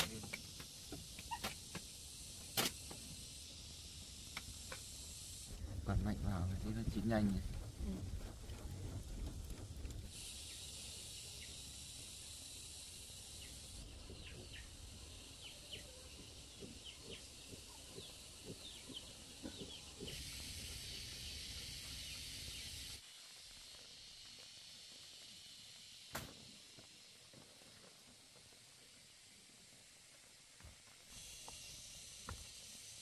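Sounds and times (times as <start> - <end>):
cooking fire crackling: 0.0 - 33.0
steady high hiss: 0.0 - 33.0.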